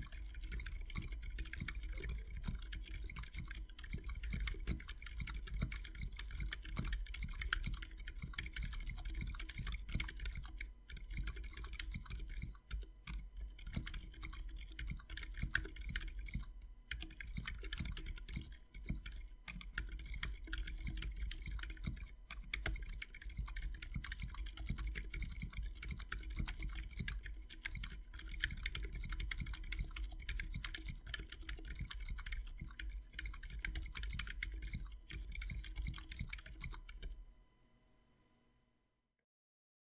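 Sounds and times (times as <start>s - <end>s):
mechanical keyboard typing: 0.0s - 37.2s.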